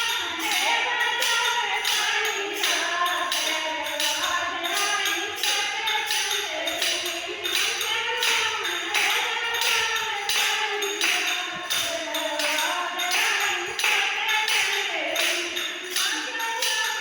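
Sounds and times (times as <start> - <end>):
steady percussion beat: 0.0 - 17.0
voices singing devotional song: 0.0 - 17.0.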